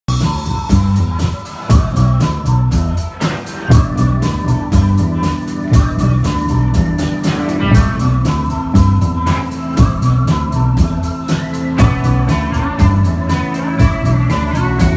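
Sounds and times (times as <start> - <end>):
bass line: 0.1 - 14.9
drum kit: 0.1 - 14.9
sustained organ tones: 0.1 - 14.9.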